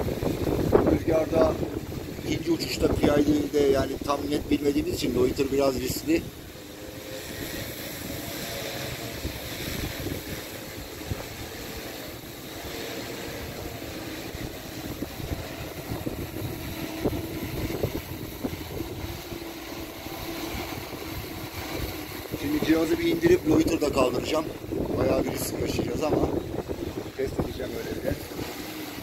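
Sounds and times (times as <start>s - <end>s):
drone propellers buzzing: 0.0s - 29.0s
wind buffeting microphone: 0.0s - 29.0s.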